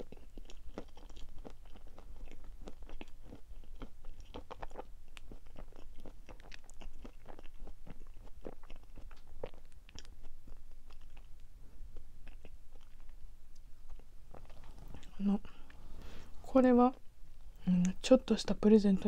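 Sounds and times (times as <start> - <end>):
person chewing: 0.0 - 16.5.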